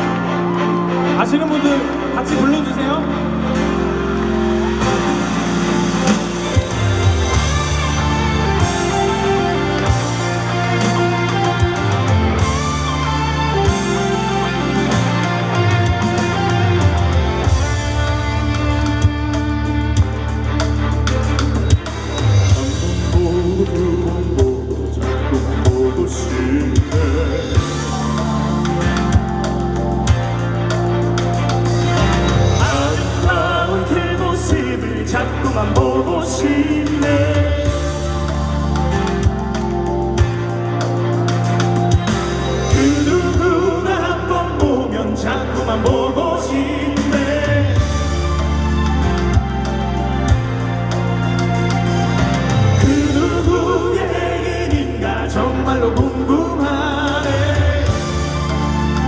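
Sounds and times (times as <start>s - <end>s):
bass line: 0.0s - 59.0s
live rock band music: 0.0s - 59.0s
voices singing with vibrato: 0.0s - 59.0s.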